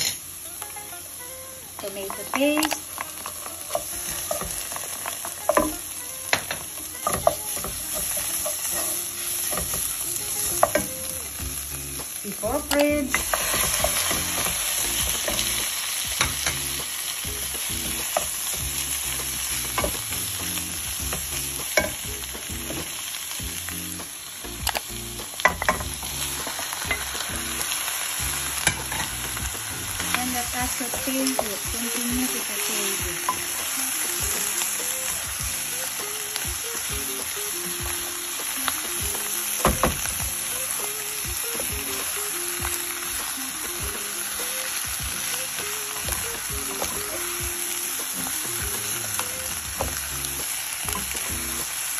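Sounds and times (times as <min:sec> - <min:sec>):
meat sizzling in a frying pan: 0:00.0 - 0:51.9.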